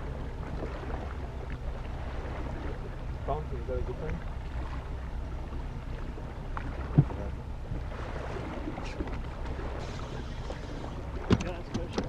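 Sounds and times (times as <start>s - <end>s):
outboard motor running: 0.0s - 12.0s
water noise: 0.0s - 12.0s
wind: 0.0s - 12.0s.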